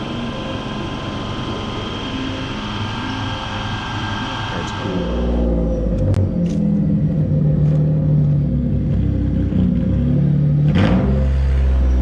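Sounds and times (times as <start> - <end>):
car exhaust note: 0.0 - 12.0.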